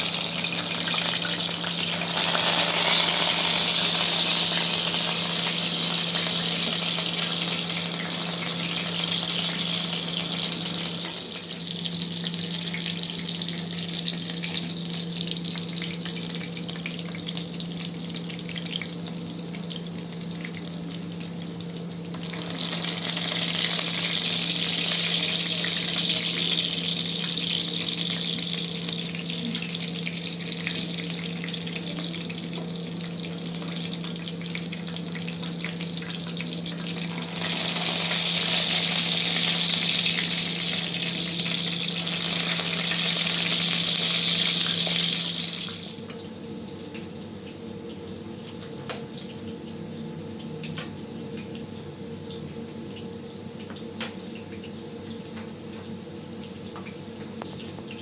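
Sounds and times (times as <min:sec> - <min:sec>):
water pouring steadily: 0:00.0 - 0:58.0.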